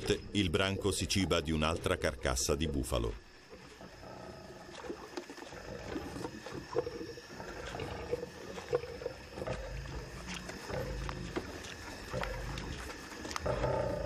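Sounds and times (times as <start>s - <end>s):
lion growling: 0.0s - 14.0s.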